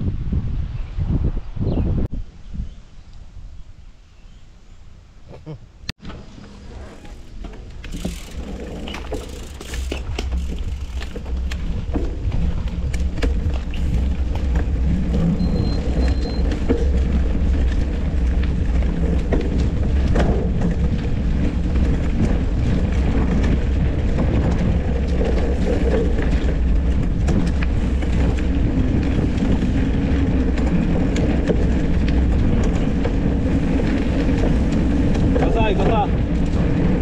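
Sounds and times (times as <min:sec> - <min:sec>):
wind on microphone: 0:00.0 - 0:04.0, 0:07.9 - 0:37.0
bike rattling: 0:06.0 - 0:37.0
tyres rumbling on dirt: 0:06.0 - 0:37.0
clicks and knocks over bumps: 0:07.0 - 0:37.0.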